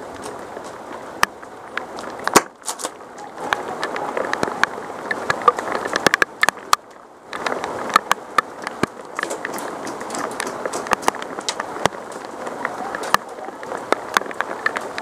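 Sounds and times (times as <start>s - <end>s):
heavy rain hiss: 0.0s - 15.0s
raindrops ticking on gear: 0.0s - 15.0s.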